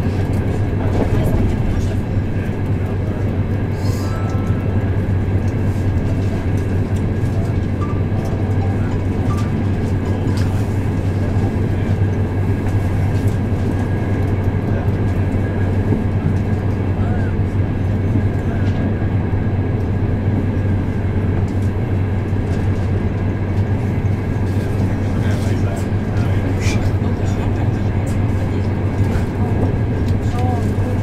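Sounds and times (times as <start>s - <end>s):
train hum and rumble inside carriage: 0.0s - 31.0s.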